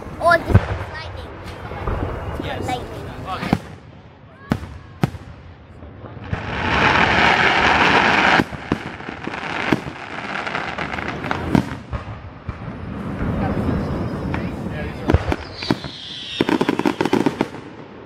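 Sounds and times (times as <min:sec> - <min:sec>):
fireworks rushing noise: 0:00.0 - 0:18.0.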